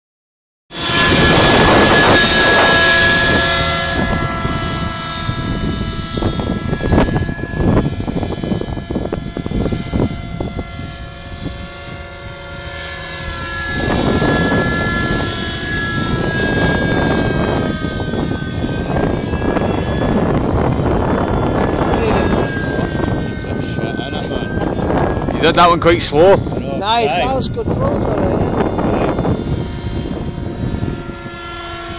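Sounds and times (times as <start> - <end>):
model helicopter engine whine: 0.7 - 31.9.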